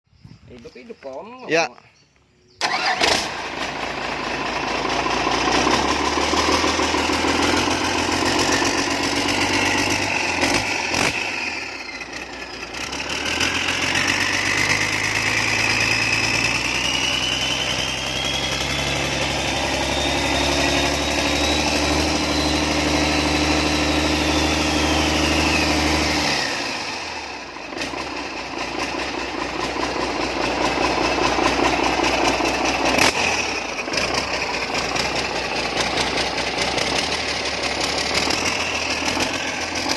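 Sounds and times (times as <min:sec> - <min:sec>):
diesel engine running: 0:02.6 - 0:39.9
high engine whine: 0:02.6 - 0:39.9.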